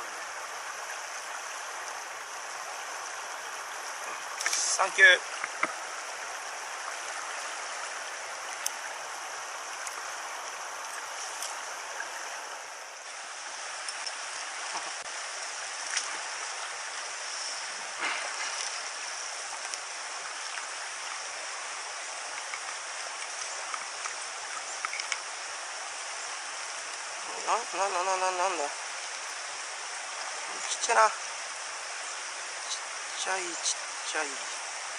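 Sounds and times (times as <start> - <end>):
stream rushing over stones: 0.0 - 34.9.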